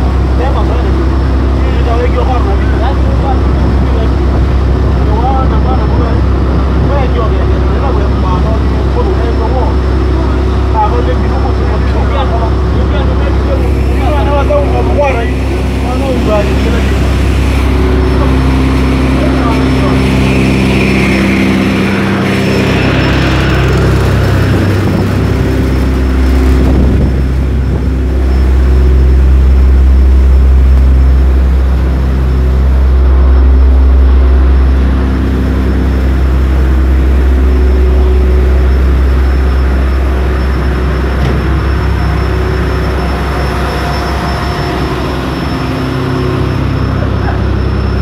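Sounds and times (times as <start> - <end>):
ferry engines droning: 0.0 - 48.0.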